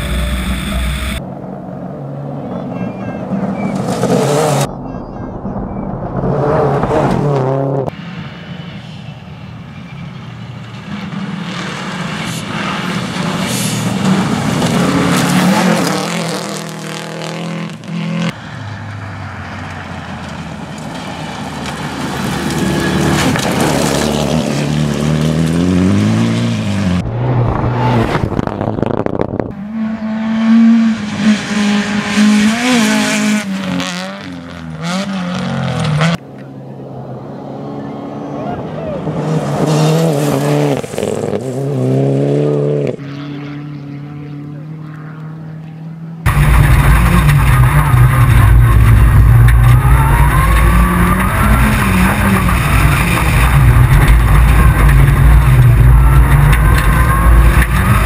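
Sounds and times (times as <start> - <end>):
rally car engines revving: 0.0 - 8.6, 10.0 - 58.0.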